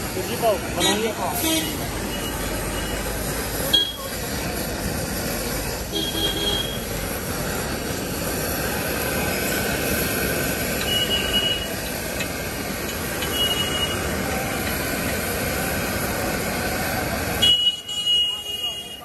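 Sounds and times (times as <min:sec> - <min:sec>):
onions sizzling in oil: 0:00.0 - 0:17.7
street noise: 0:00.0 - 0:19.0.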